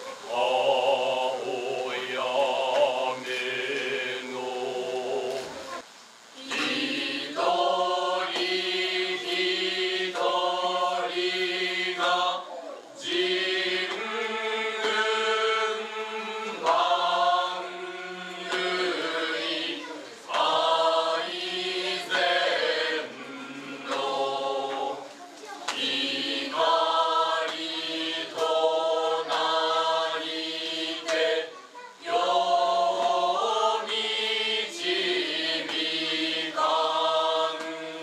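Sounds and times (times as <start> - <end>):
children singing in unison: 0.0 - 38.0.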